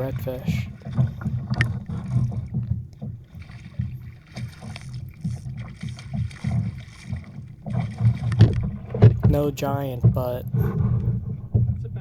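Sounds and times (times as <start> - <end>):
faint splashes and knocks: 0.0 - 12.0
water rumbling against hull: 0.0 - 12.0.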